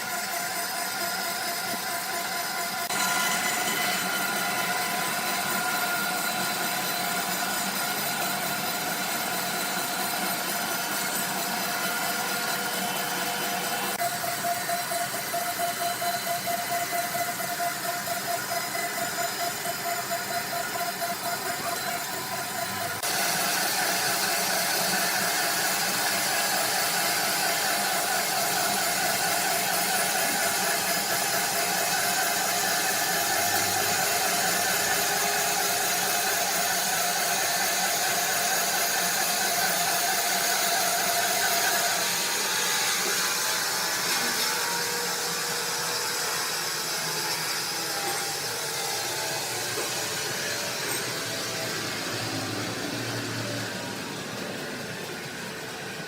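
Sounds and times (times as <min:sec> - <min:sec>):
sawmill machinery running: 0:00.0 - 0:56.0
wavering machine whine: 0:00.0 - 0:56.0.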